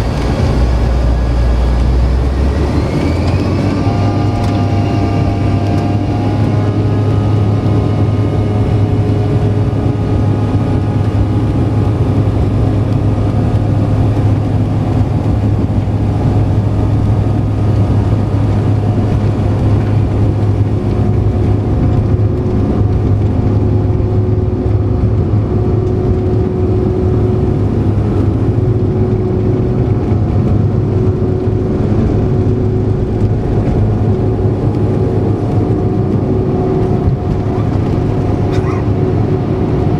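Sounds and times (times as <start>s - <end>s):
jet engine drone in cabin: 0.0s - 39.9s
whining engine tones: 0.0s - 39.9s.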